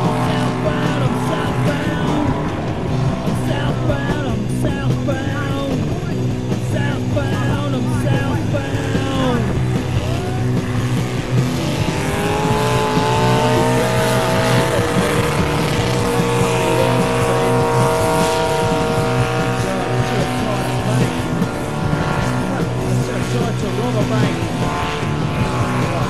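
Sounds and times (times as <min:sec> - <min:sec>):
engine whine: 0:00.0 - 0:26.0
tractor engine at high revs: 0:00.0 - 0:26.0.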